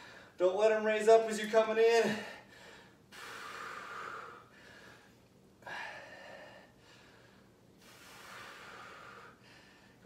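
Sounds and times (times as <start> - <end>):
man breathing hard: 0.0 - 0.4, 2.1 - 10.0.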